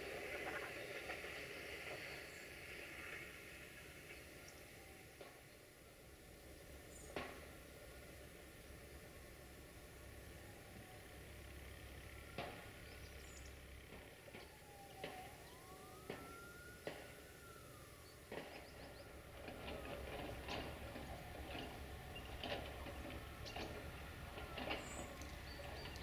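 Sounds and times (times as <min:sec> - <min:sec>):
distant siren wailing: 0:00.0 - 0:26.0.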